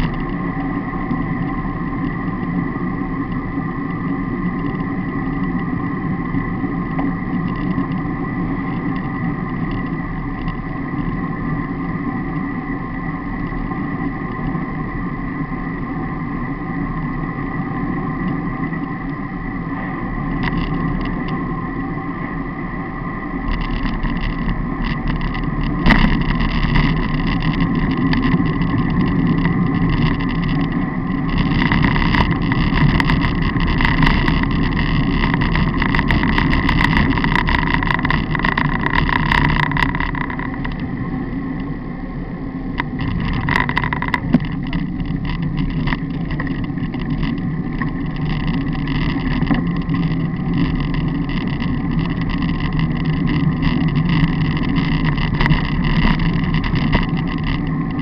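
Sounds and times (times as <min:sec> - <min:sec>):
bicycle rattles over bumps: 0:00.0 - 0:21.7, 0:23.3 - 0:41.8, 0:42.7 - 0:58.0
wind and road rush: 0:00.0 - 0:58.0.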